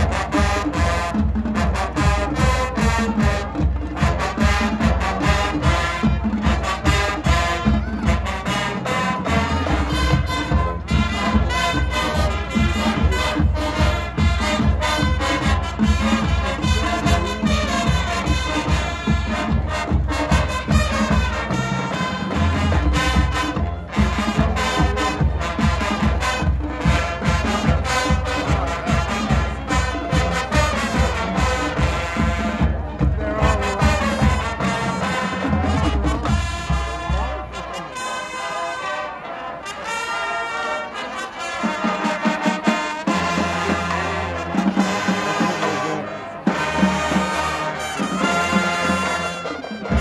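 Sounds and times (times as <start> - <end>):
marching band playing: 0.0 - 50.0.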